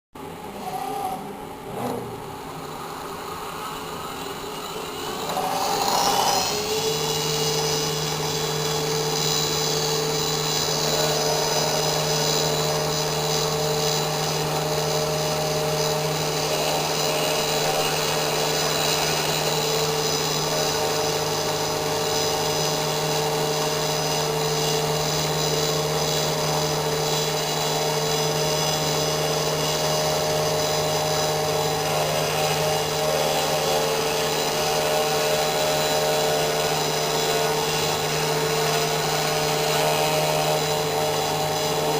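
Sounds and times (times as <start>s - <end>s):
engraving machine hum and whine: 0.2s - 41.9s.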